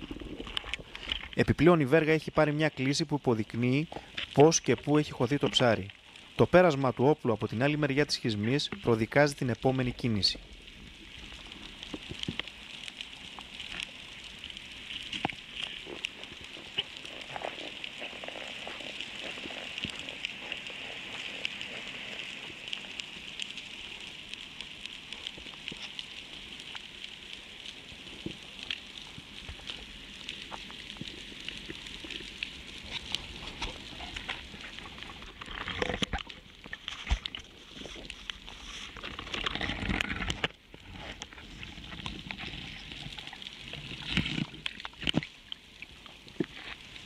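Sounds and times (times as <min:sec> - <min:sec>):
underwater crackling hiss: 0:00.0 - 0:47.0.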